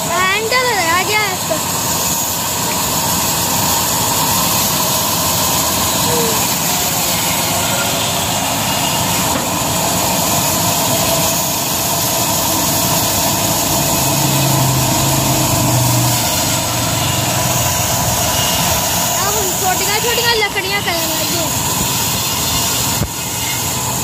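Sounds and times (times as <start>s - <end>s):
low motor hum: 0.0s - 23.2s
band saw cutting log: 0.0s - 24.0s.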